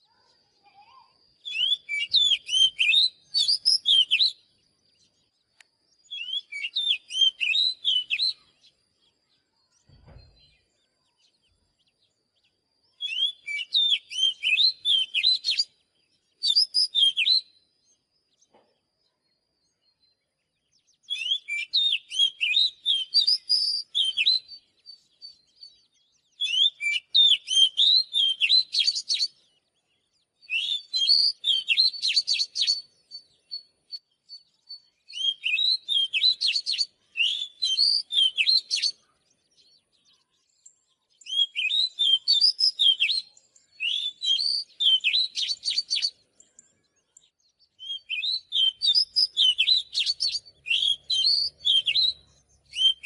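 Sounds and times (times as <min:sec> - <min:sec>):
bird singing whistles and chirps: 0:00.0 - 0:53.0.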